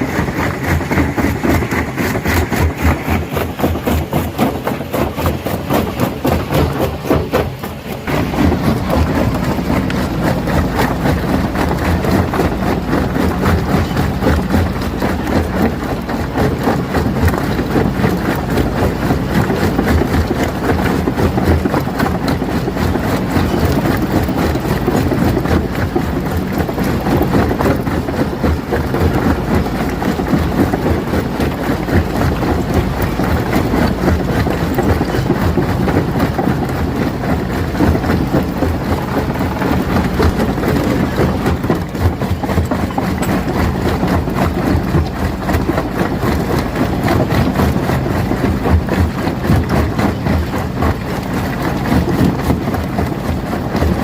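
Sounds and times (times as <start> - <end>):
rock crusher engine running: 0.0 - 54.0.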